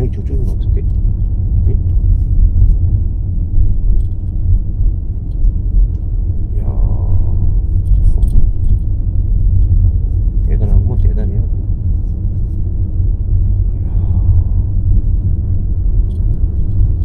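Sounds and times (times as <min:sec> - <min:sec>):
light clicks and rattles: 0:00.0 - 0:12.7, 0:14.7 - 0:17.0
road rumble inside car: 0:00.0 - 0:17.0.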